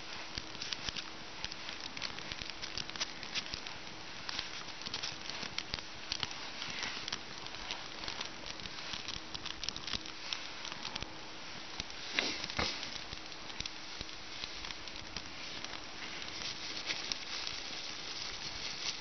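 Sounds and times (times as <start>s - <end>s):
fire crackling and snapping: 0.0s - 19.0s.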